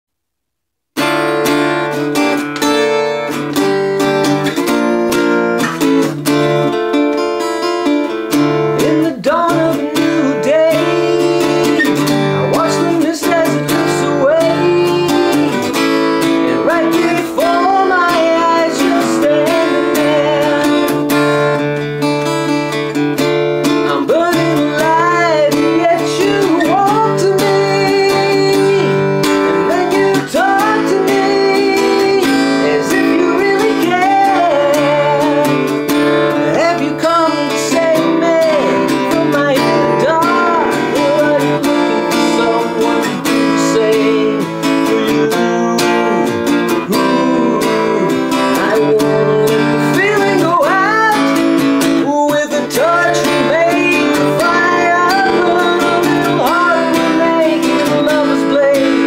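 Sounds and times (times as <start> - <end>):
acoustic guitar strumming: 1.0 - 59.0
man singing: 8.2 - 59.0.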